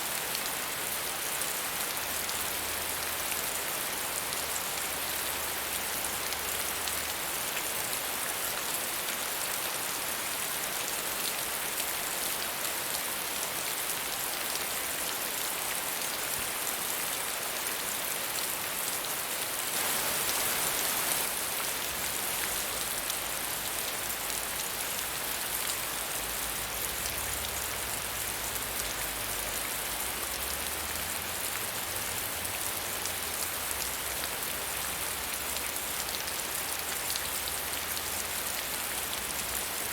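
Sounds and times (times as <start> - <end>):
medium rainfall: 0.0 - 39.9.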